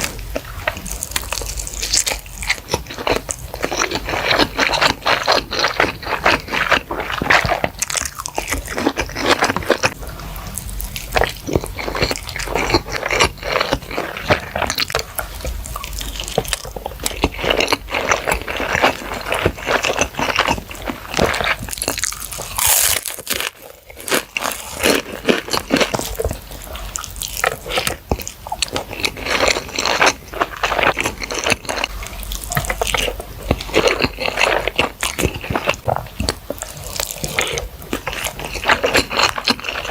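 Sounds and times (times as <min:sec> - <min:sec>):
wet crunchy chewing: 0:00.0 - 0:39.9.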